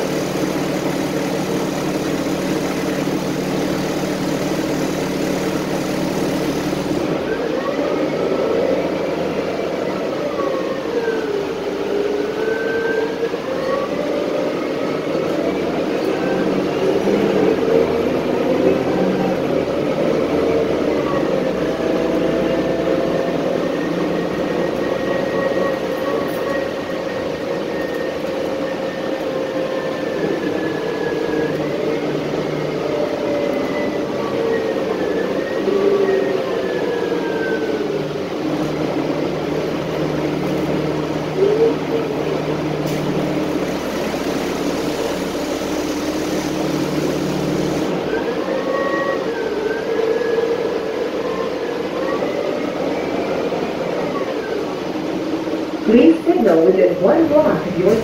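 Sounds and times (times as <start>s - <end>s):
bus engine whine: 0.0s - 58.0s
road rumble: 0.0s - 58.0s.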